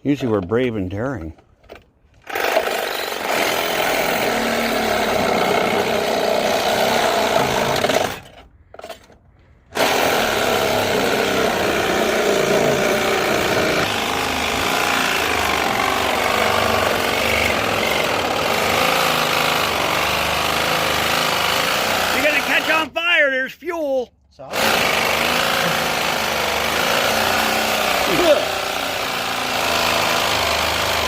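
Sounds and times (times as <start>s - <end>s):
power saw cutting metal: 2.2s - 22.9s, 24.5s - 31.0s.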